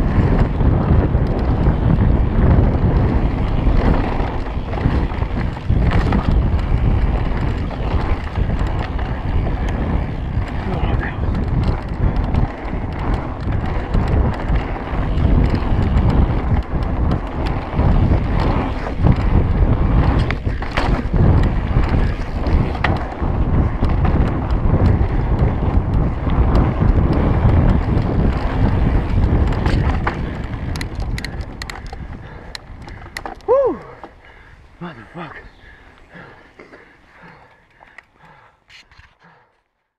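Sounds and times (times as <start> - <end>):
wind buffeting microphone: 0.0 - 38.6
bike tyres rumbling on dirt: 0.0 - 39.5
bike rattling and clicking: 0.0 - 39.7.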